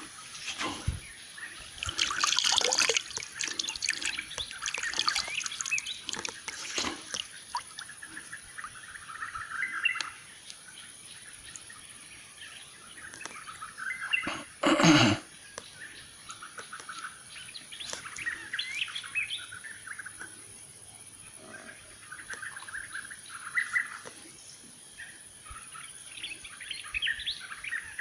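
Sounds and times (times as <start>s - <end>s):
water trickling in a stream: 0.0s - 20.3s, 22.0s - 24.3s
songbirds chirping: 0.0s - 28.0s.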